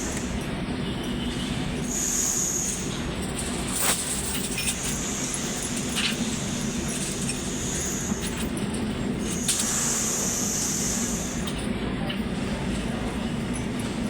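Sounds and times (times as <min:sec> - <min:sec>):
work site background noise: 0:00.0 - 0:14.0.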